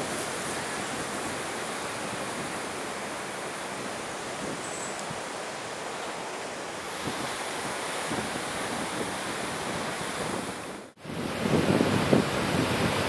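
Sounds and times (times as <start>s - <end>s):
wind buffeting microphone: 0.0s - 5.3s, 6.9s - 13.0s
strong wind blowing: 0.0s - 5.8s, 6.6s - 13.0s.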